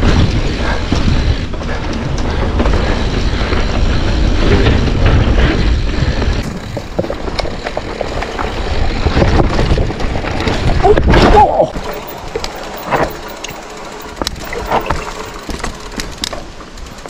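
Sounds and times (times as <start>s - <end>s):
bike clattering over bumps: 0.0s - 17.0s
tyres rolling over stones: 0.0s - 17.0s.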